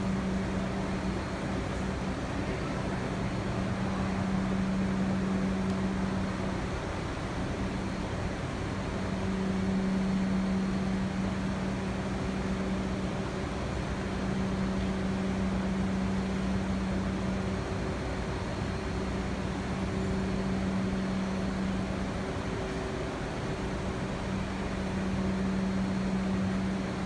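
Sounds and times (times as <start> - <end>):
low steady tone: 0.0 - 27.0
train air-conditioning hum: 0.0 - 27.0.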